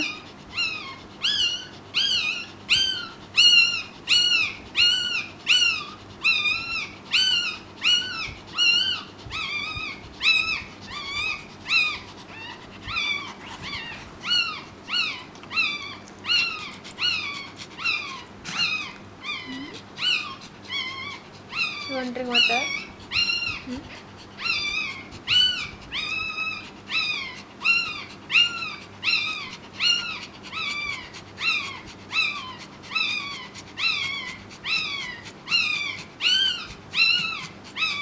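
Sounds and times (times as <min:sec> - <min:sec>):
dog whimpering: 0:00.0 - 0:38.0.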